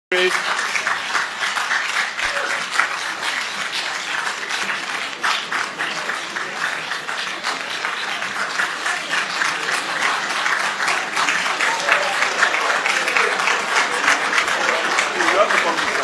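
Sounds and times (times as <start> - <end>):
crowd applause: 0.1 - 16.0.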